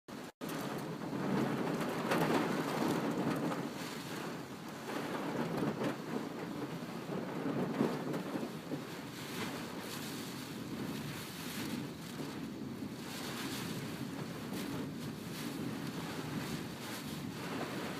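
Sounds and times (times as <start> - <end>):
strong gusty wind: 0.1 - 17.9.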